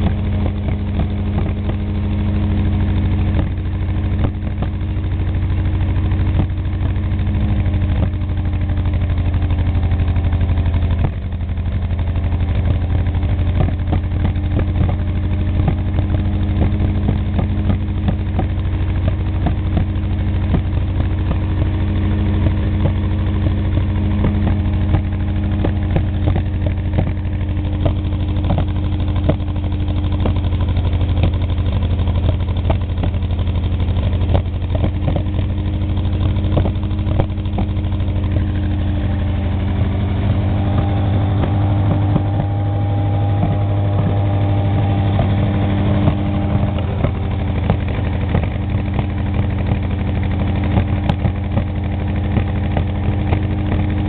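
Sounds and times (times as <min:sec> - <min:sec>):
sharp engine pops: 0:00.0 - 0:02.0, 0:03.2 - 0:04.9, 0:06.3 - 0:06.9, 0:10.8 - 0:11.5, 0:12.3 - 0:54.0
engine running steadily: 0:00.0 - 0:54.0.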